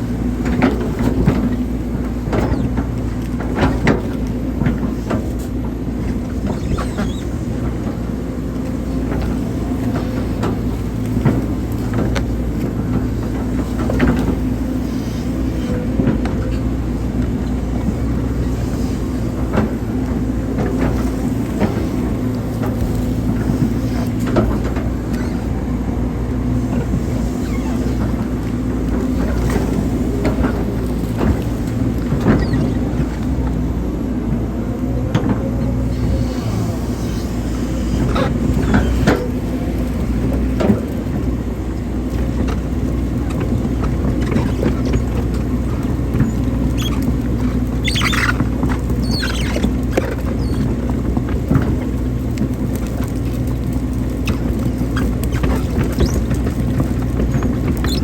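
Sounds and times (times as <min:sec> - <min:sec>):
excavator diesel engine running: 0:00.0 - 0:58.0
excavator knocks and clanks: 0:00.0 - 0:58.0.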